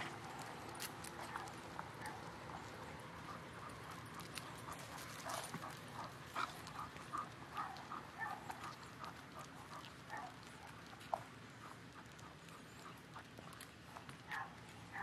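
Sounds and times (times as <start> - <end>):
soft footsteps on pavement: 0.0 - 15.0.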